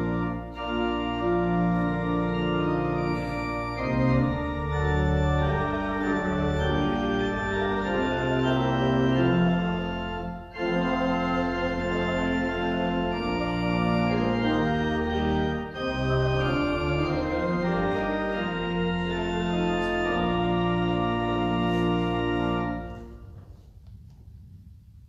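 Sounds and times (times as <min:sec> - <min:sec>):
church organ playing chords: 0:00.0 - 0:23.4.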